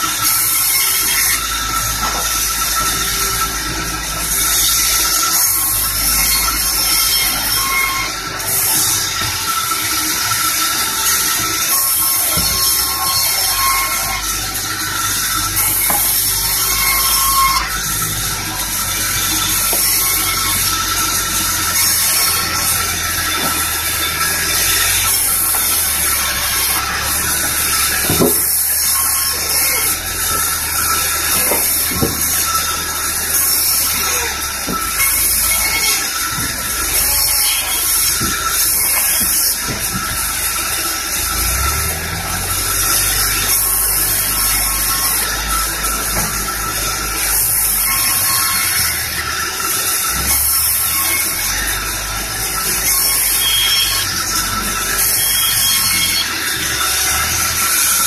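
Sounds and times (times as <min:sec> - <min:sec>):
bandsaw blade cutting wood: 0:00.0 - 0:58.0.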